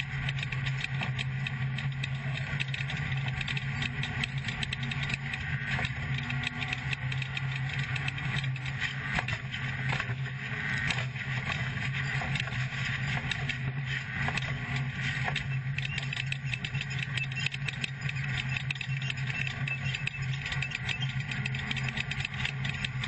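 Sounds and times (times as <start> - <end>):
truck engine running hard: 0.0 - 23.0
truck rattling and clicking: 0.0 - 23.0.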